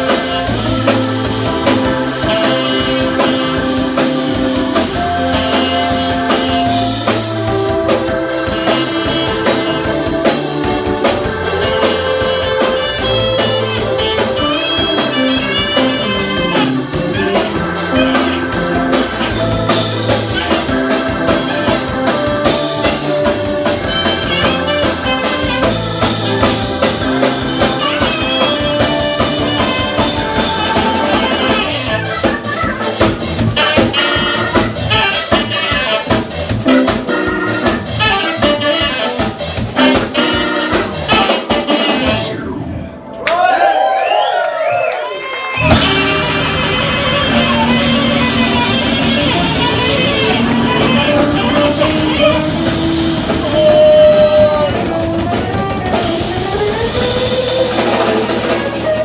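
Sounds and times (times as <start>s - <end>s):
saxophone: 0.0s - 42.8s, 45.4s - 59.0s
electric guitar: 0.0s - 43.2s, 45.4s - 59.0s
drum kit: 0.0s - 44.4s, 45.4s - 59.0s.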